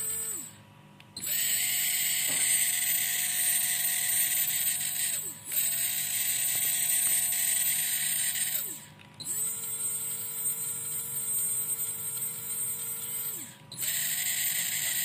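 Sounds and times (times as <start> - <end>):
electric motor whine: 0.0 - 0.6, 1.2 - 15.0.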